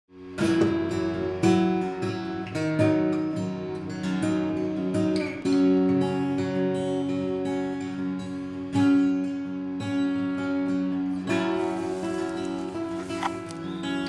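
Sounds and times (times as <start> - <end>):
acoustic guitar plucked notes: 0.2 - 14.0.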